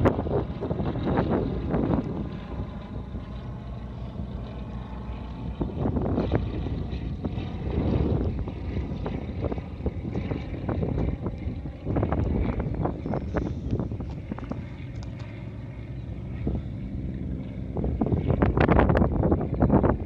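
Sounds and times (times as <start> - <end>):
low engine drone: 0.0 - 20.0
wind rumbling on microphone: 0.0 - 20.0.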